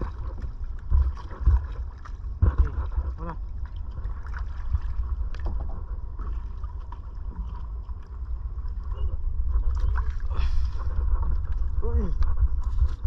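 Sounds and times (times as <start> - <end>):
water lapping against canoe: 0.0 - 13.0
wind rumbling on microphone: 0.0 - 13.0.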